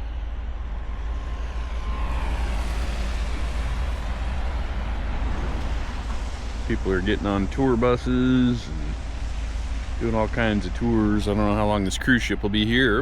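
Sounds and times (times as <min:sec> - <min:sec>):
faint whine: 0:00.0 - 0:13.0
low rumble of engines: 0:00.0 - 0:13.0
even hiss: 0:01.3 - 0:13.0.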